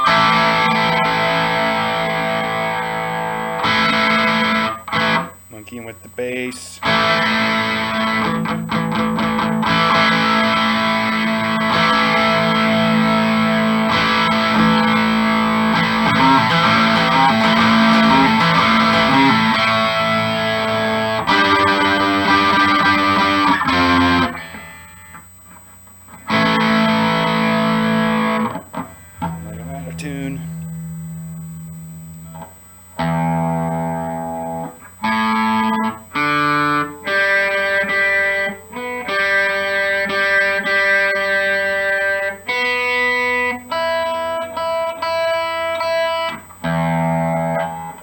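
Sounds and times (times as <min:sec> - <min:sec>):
electric guitar chords ringing: 0:00.0 - 0:48.0.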